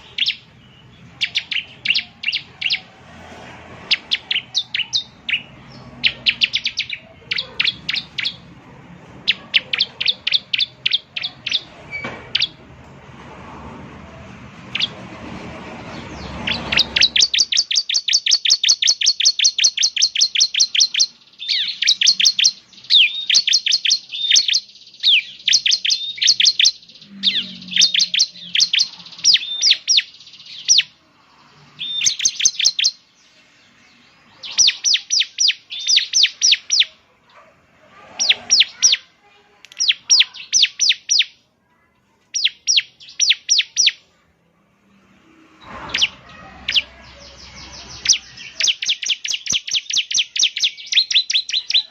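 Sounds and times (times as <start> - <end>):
bird singing sharp high chirps: 0.0 - 2.9, 3.8 - 8.6, 9.2 - 12.6, 14.6 - 15.0, 15.8 - 37.5, 38.1 - 39.1, 39.7 - 41.4, 42.3 - 44.1, 45.5 - 51.9.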